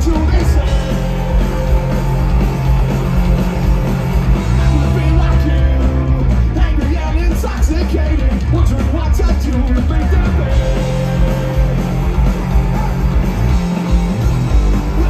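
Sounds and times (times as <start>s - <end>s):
punk rock band playing live: 0.0s - 15.0s.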